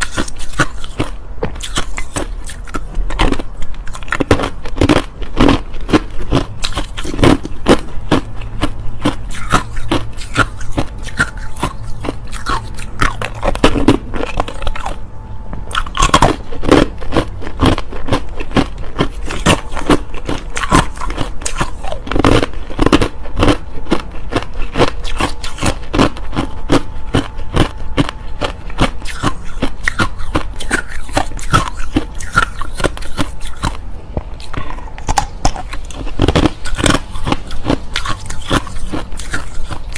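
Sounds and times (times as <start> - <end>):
crunching ice being chewed: 0.0 - 15.0, 15.6 - 39.9.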